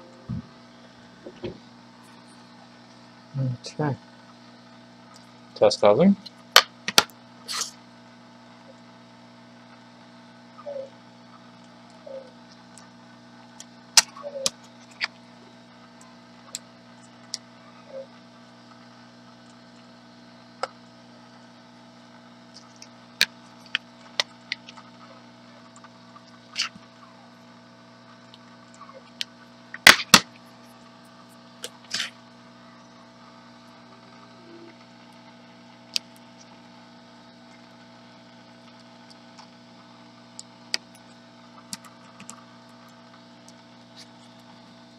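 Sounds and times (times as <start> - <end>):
electrical hum: 0.0 - 44.9.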